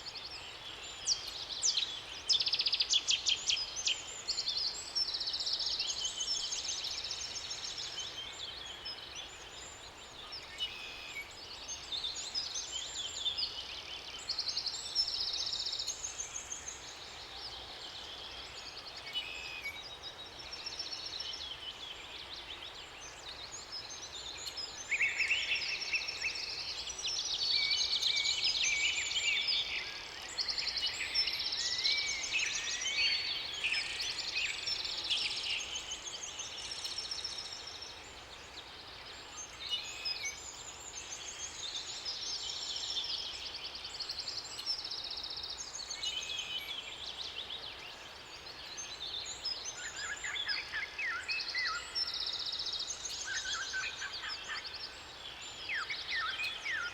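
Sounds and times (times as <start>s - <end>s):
songbirds singing: 0.0s - 56.9s
steady background hiss: 0.0s - 56.9s.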